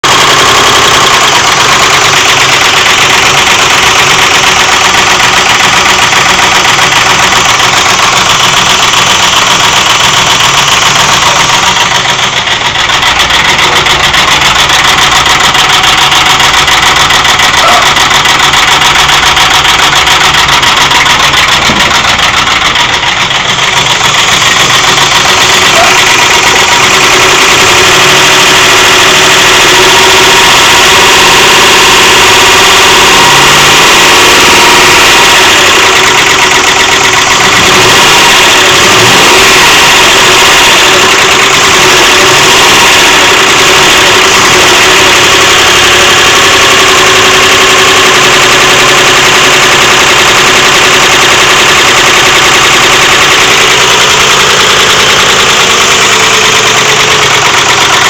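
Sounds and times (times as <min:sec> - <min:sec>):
rapid engine knocking: 0:00.0 - 0:58.0
truck engine running: 0:00.0 - 0:58.0.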